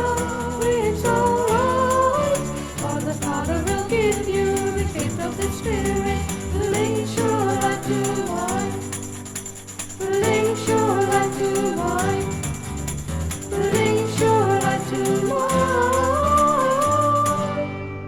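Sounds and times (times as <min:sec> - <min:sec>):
folk-rock song with group vocals: 0:00.0 - 0:18.0.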